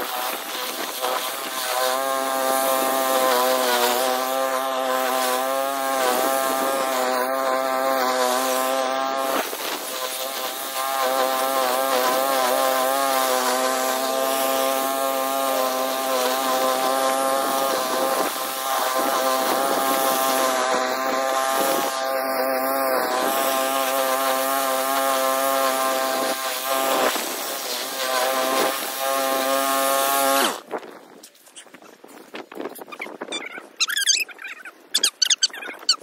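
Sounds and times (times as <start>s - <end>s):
lawn mower engine cutting grass: 0.0s - 30.7s.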